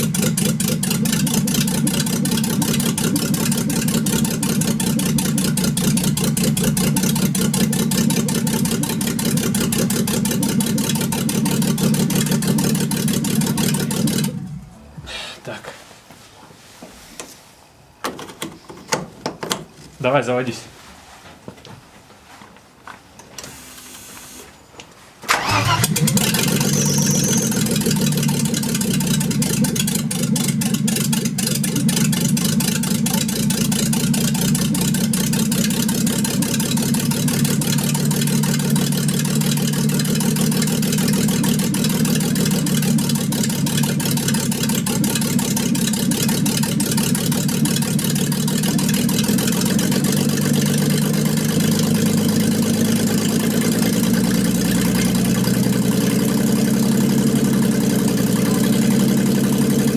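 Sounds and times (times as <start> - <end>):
rapid engine ticking clatter: 0.0 - 14.6, 25.4 - 59.9
car engine starting and running: 0.0 - 15.2, 25.2 - 59.9.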